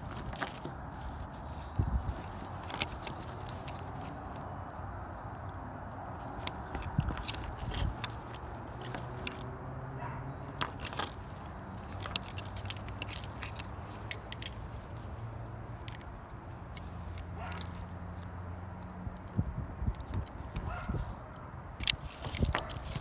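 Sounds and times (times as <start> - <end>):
metal pins clicking and jingling: 0.0 - 4.5, 6.1 - 9.5, 10.3 - 23.0.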